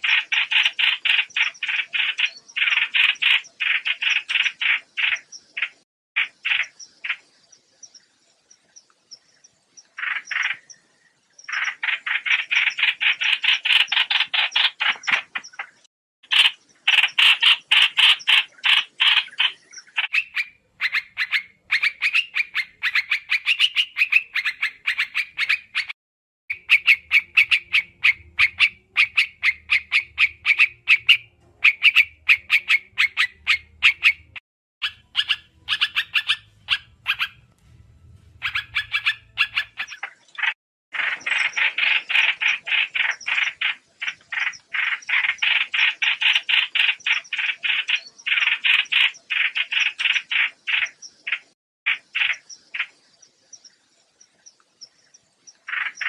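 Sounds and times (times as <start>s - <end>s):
bird chattering calls: 0.0s - 7.3s, 9.9s - 10.8s, 11.5s - 37.5s, 38.4s - 53.0s, 55.5s - 56.0s.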